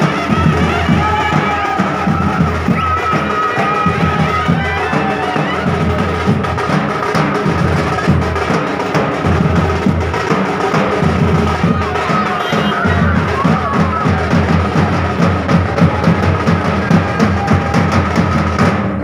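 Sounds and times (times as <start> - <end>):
dhol drum band playing fast beat: 0.0 - 19.0.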